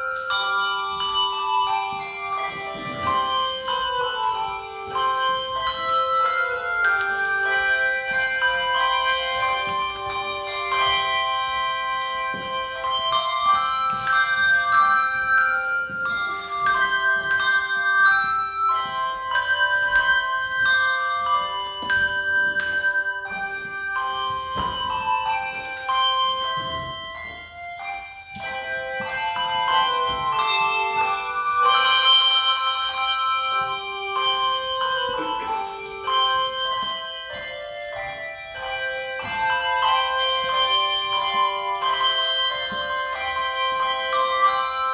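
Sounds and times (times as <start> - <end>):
handbell choir ringing: 0.0 - 44.9.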